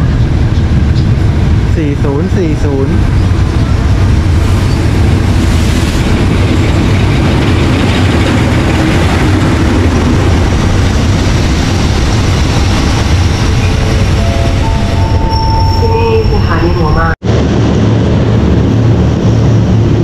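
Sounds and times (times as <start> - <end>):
diesel locomotive engine rumbling: 0.0 - 20.0
train coaches rolling by: 0.0 - 20.0.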